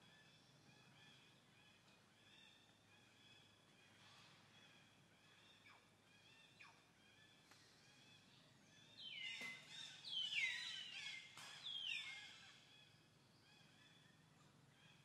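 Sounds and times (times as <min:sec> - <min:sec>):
faint soft chirping: 0:00.0 - 0:15.0.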